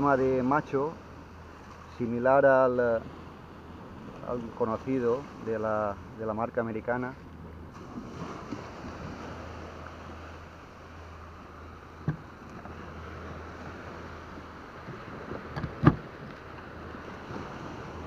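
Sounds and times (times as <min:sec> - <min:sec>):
surf: 0:00.0 - 0:18.0
wind: 0:00.0 - 0:18.0.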